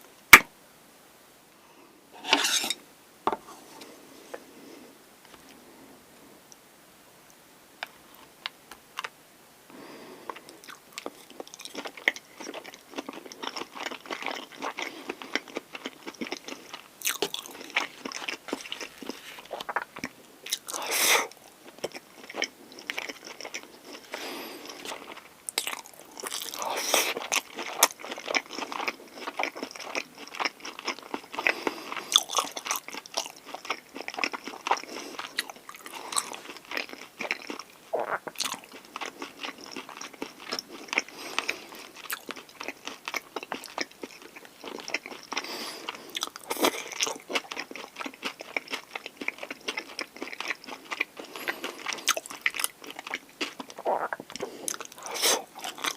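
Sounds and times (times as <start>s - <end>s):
biting and chewing food: 10.2s - 55.9s.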